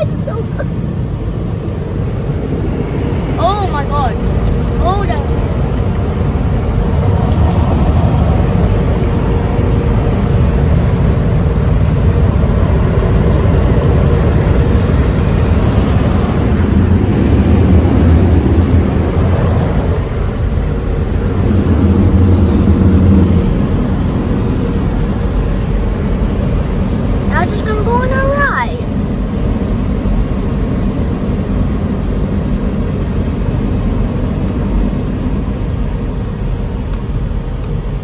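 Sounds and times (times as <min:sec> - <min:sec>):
car wash machinery rumbling: 0:00.0 - 0:38.0.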